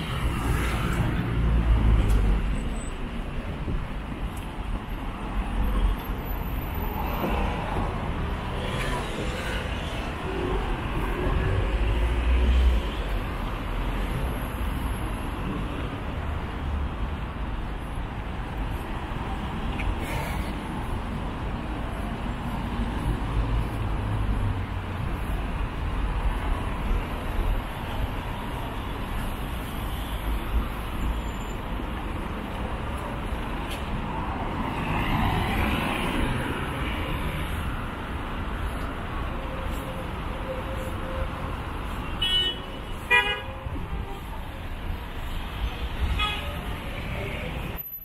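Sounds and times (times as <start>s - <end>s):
traffic rumble: 0.0s - 48.0s.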